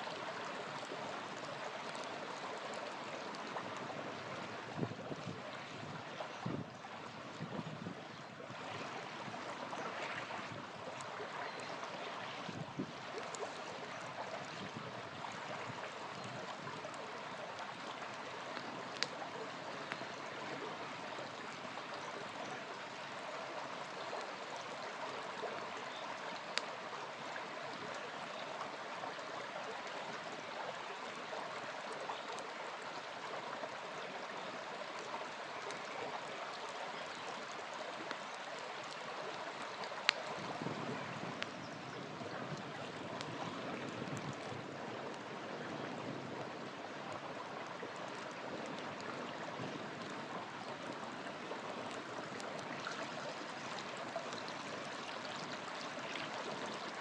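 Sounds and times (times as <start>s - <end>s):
river rushing and gurgling: 0.0s - 57.0s
campfire crackling and popping: 0.1s - 6.0s, 8.7s - 28.0s, 34.8s - 57.0s.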